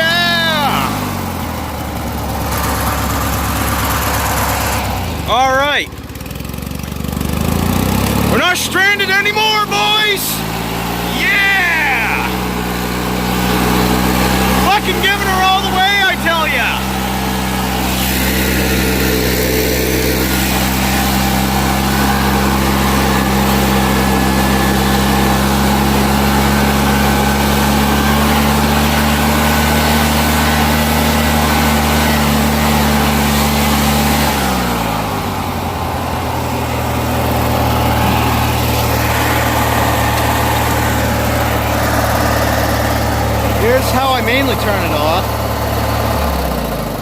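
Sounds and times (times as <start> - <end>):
opposed-twin engine running: 0.0 - 47.0.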